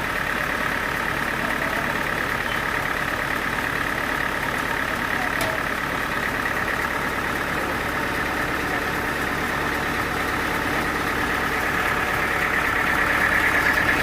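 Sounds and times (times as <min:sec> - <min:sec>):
sawmill machinery drone: 0:00.0 - 0:14.0.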